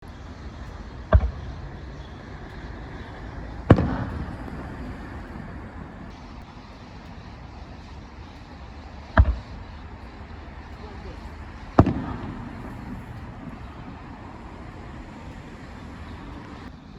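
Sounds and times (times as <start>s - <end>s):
fireworks booming: 0.0s - 16.7s
rumbling echo: 0.0s - 16.7s.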